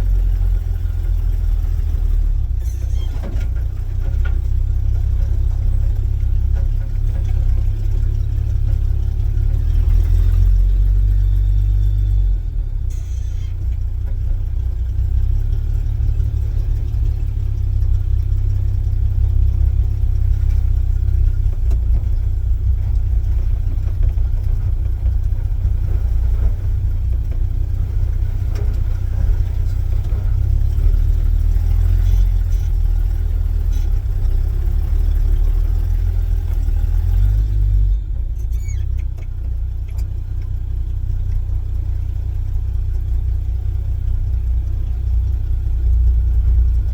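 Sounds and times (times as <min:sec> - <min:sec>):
pickup engine running: 0:00.0 - 0:46.9.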